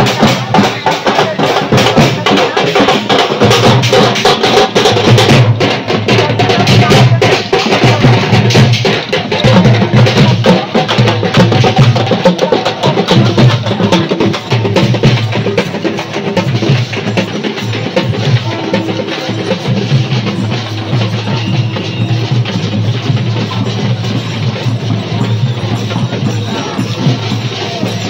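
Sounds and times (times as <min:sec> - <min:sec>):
crowd voices: 0:00.0 - 0:28.0
hand drums beating: 0:00.0 - 0:28.0.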